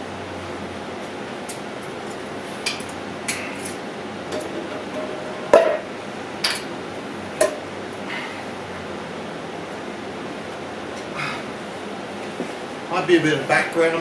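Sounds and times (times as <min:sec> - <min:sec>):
air conditioner hiss: 0:00.0 - 0:14.0.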